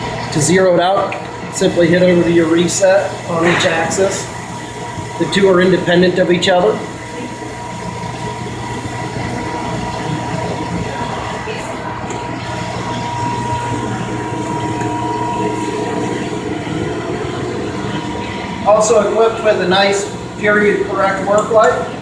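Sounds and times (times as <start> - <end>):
lathe running with high whine: 0.0 - 22.0.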